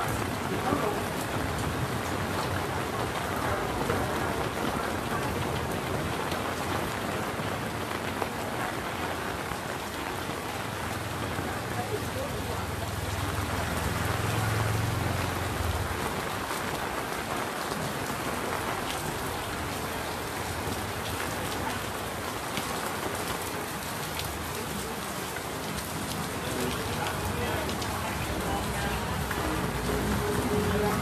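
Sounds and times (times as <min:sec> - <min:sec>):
rain on pavement: 0:00.0 - 0:31.0.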